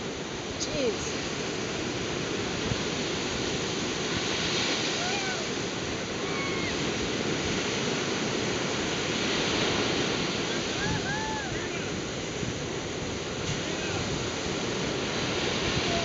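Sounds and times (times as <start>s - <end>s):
surf breaking on beach: 0.0s - 16.0s.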